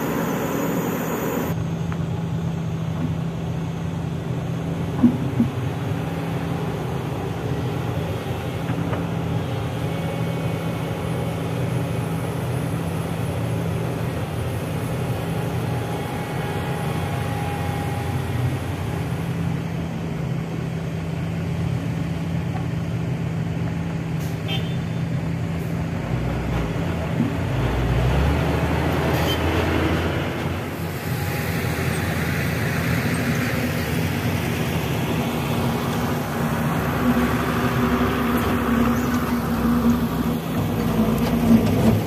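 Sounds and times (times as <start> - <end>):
excavator loading soil: 0.0 - 23.7, 25.5 - 42.0
heavy diesel engines running: 0.0 - 42.0.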